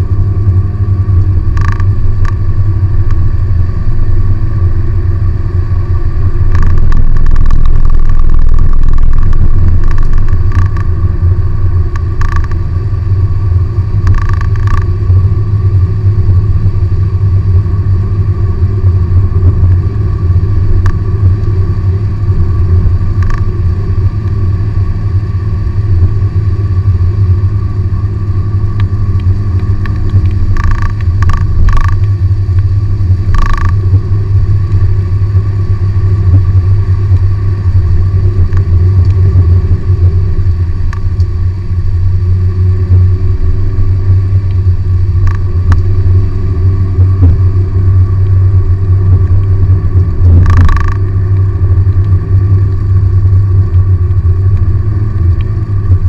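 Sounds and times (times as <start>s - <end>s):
car engine and tyre drone: 0.0s - 56.0s.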